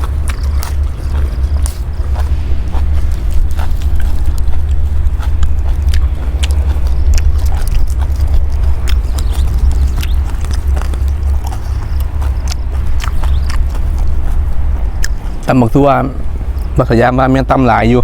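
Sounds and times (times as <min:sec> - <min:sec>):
person chewing and crunching food: 0:00.0 - 0:17.1
steady low rumble: 0:00.0 - 0:18.0.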